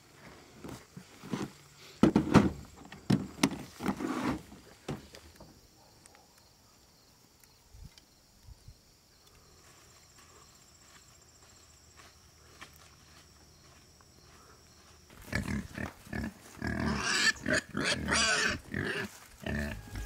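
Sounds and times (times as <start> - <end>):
faint insects chirring: 0.0 - 20.0.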